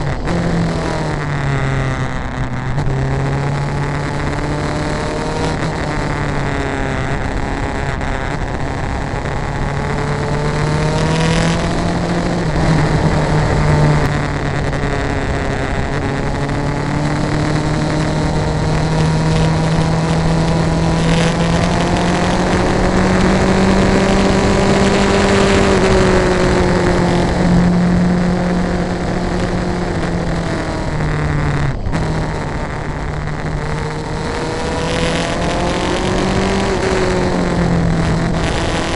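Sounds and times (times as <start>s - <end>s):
vehicle engine running: 0.0s - 38.9s
wind or road noise: 0.0s - 38.9s.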